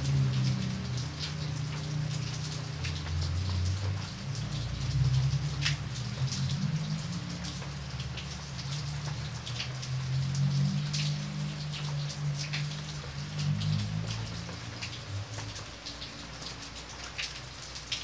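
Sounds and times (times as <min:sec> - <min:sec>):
rain drops striking close by: 0:00.0 - 0:18.0.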